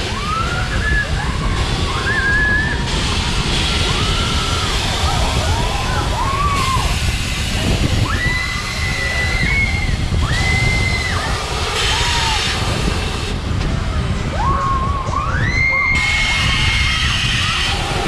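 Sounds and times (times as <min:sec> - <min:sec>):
riders screaming: 0:00.0 - 0:07.2, 0:07.8 - 0:12.9, 0:14.3 - 0:18.0
wind rushing over microphone: 0:00.0 - 0:18.0.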